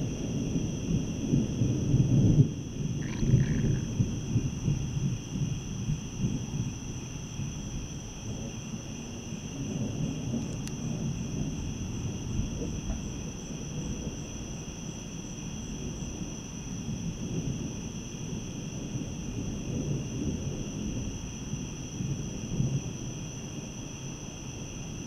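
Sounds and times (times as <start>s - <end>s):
distant thunder rumbling: 0.0s - 24.3s
night insects chorus: 0.0s - 25.0s.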